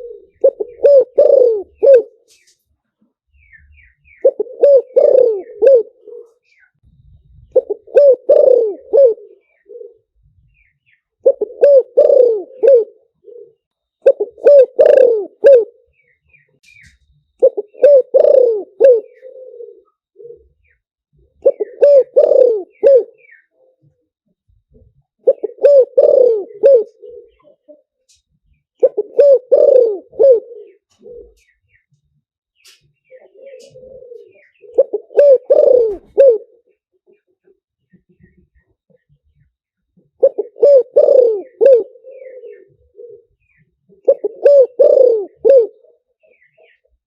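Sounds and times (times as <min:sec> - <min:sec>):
dove cooing: 0:00.0 - 0:02.5, 0:03.4 - 0:24.1, 0:24.7 - 0:28.1, 0:28.8 - 0:31.8, 0:33.0 - 0:47.0.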